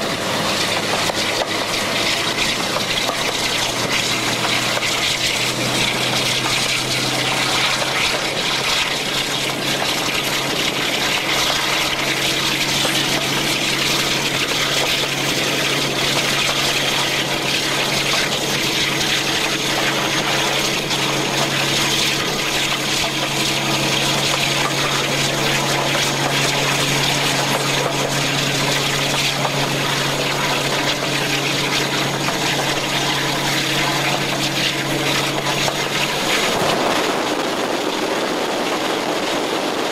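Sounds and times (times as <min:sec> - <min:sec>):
locomotive engine drone: 0:00.0 - 0:39.9
rushing air: 0:00.0 - 0:39.9
train wheel noise: 0:00.0 - 0:39.9.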